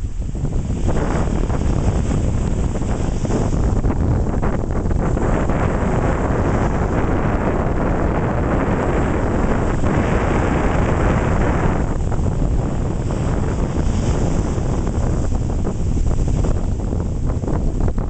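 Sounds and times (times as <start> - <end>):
waves breaking and foam rushing: 0.0 - 18.0
wind buffeting microphone: 0.0 - 18.0.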